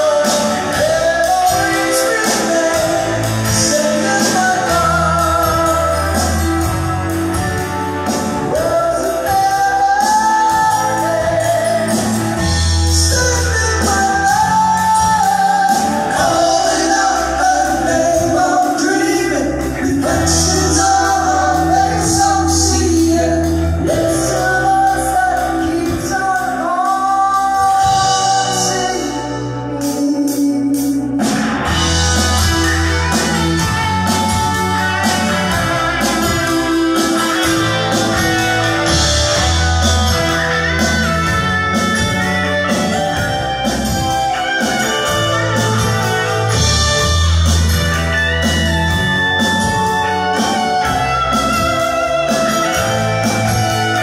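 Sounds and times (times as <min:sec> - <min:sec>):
lead vocalist singing: 0:00.0 - 0:47.6
live rock band: 0:00.0 - 0:54.0.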